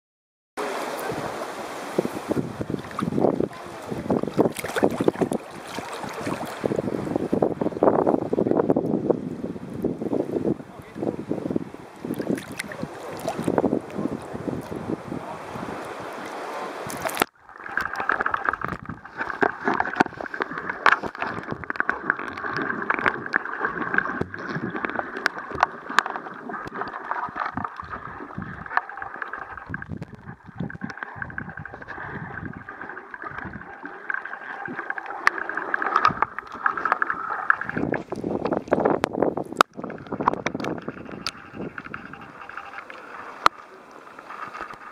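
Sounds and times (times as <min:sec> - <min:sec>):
sea water splashing: 0:00.6 - 0:44.9
underwater clicks and crackles: 0:00.9 - 0:09.0, 0:11.9 - 0:14.9, 0:15.5 - 0:44.9.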